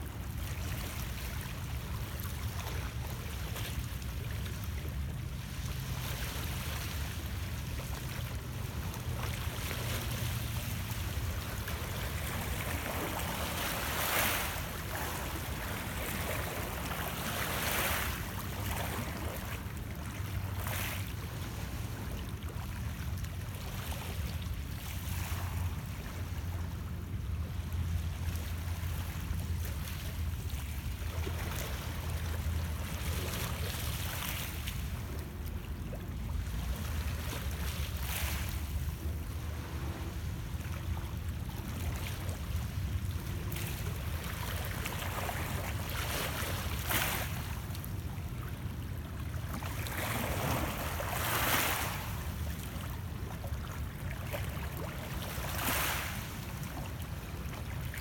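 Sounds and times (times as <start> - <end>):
waves lapping on rocks: 0.1 - 58.0.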